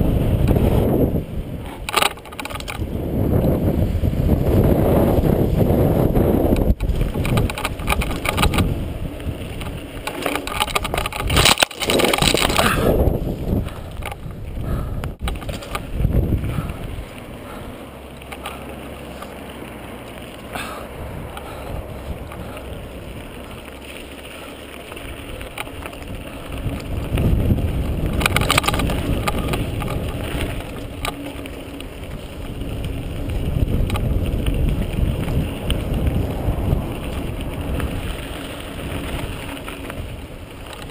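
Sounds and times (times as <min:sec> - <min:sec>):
wind on microphone: 0:00.0 - 0:17.8, 0:20.6 - 0:23.6, 0:25.1 - 0:40.9
bike rattling over bumps: 0:00.0 - 0:40.9
bike tyres on dirt and gravel: 0:00.0 - 0:40.9.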